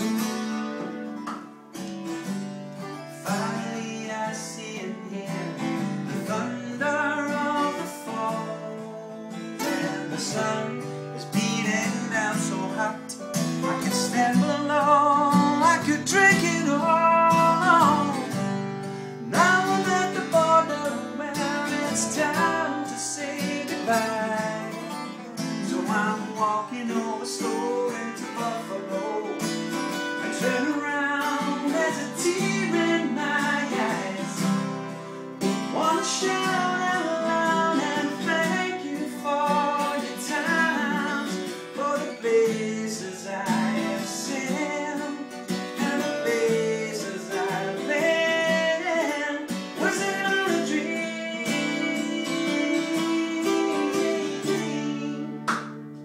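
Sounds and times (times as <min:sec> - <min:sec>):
acoustic guitars strumming chords: 0:00.0 - 0:56.0
picked guitar melody: 0:00.0 - 0:56.0.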